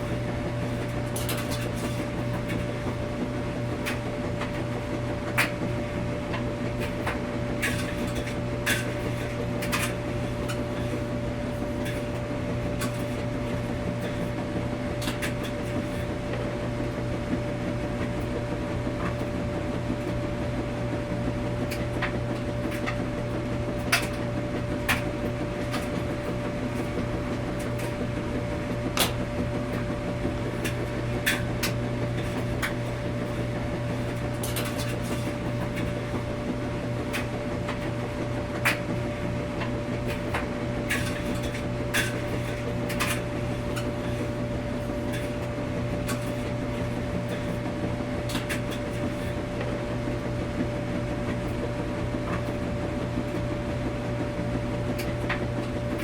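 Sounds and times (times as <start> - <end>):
washing machine hum: 0.0 - 56.0.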